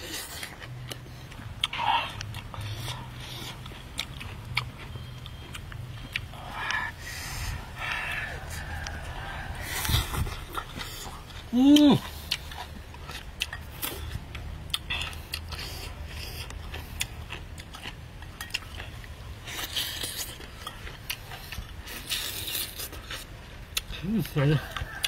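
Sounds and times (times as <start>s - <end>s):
man chewing loudly: 0.0s - 25.0s.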